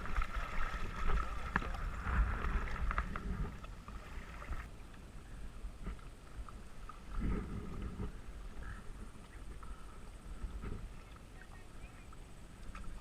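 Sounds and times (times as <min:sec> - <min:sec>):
water lapping: 0:00.0 - 0:04.7, 0:05.4 - 0:13.0
kayak paddle splashing: 0:00.0 - 0:13.0
low camera rumble: 0:00.0 - 0:13.0.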